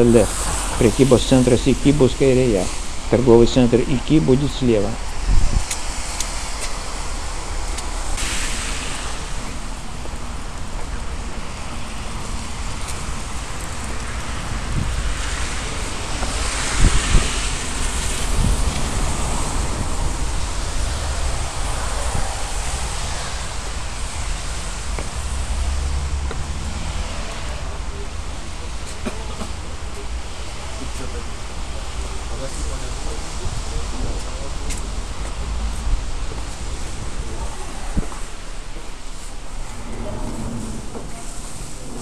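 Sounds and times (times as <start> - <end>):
rain hissing: 0.0 - 42.0
traffic on wet roads: 0.0 - 42.0
wind rumbling on microphone: 0.0 - 42.0.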